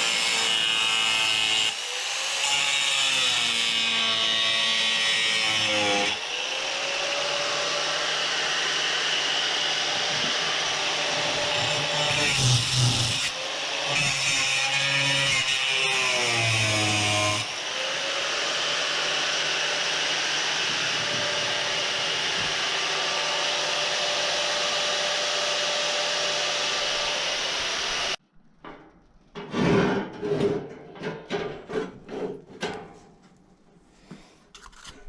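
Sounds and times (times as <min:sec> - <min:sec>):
power saw cutting: 0:00.0 - 0:28.2.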